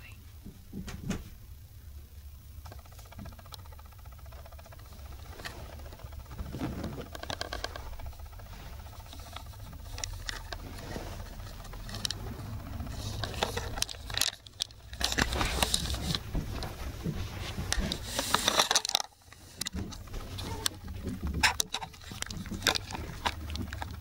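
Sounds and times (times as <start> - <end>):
clicks and rustles: 2.5 - 24.0.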